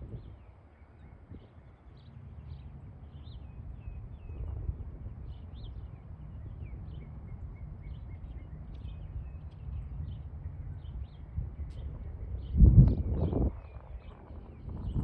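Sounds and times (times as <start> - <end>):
steady low rumble: 0.0 - 0.4, 2.2 - 15.0
small birds chirping: 0.1 - 15.0.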